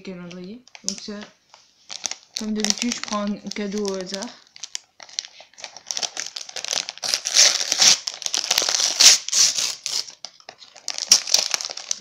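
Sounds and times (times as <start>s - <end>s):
wrapping paper rustling: 0.2s - 12.0s.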